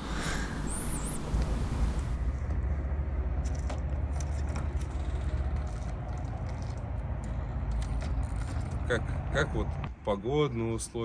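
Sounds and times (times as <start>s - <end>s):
off-road vehicle rumbling: 0.0s - 9.8s.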